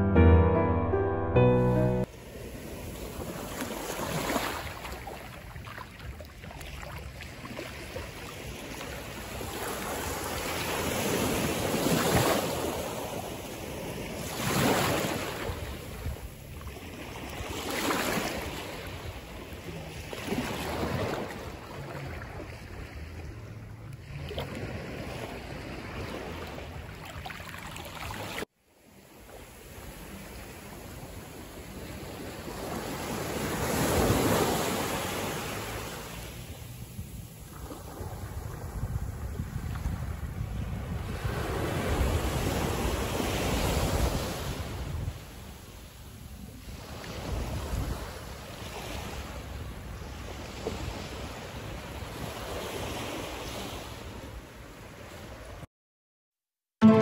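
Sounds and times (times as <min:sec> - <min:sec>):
small waves washing over sand: 0:02.1 - 0:55.6.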